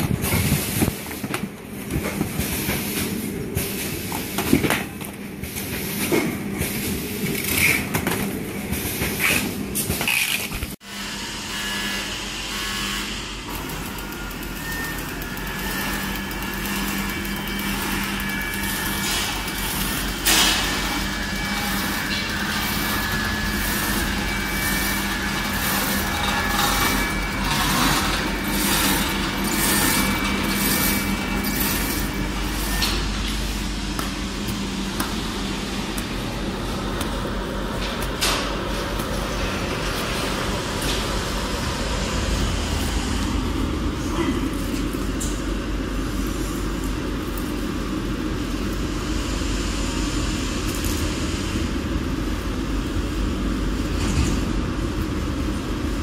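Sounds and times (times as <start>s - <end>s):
machine humming: 10.8s - 56.0s.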